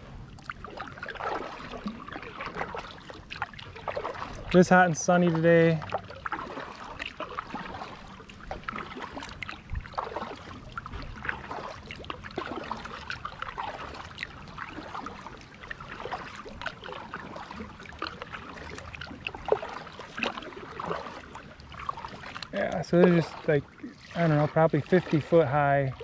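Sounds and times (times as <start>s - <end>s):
water trickling and dripping: 0.0s - 26.0s.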